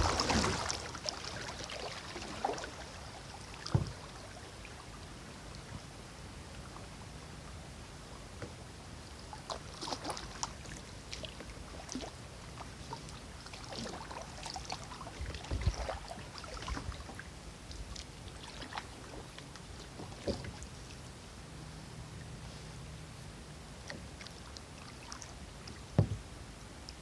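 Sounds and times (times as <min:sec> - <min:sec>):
paddle splashes and drips: 0:00.0 - 0:07.0, 0:09.2 - 0:27.0.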